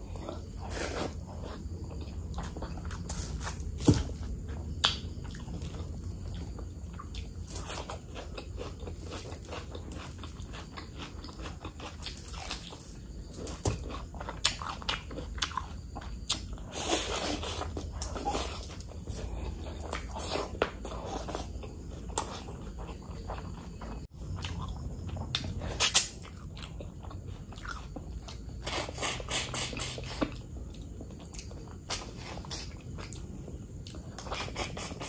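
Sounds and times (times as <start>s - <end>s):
chewing and biting food: 0.0s - 35.0s.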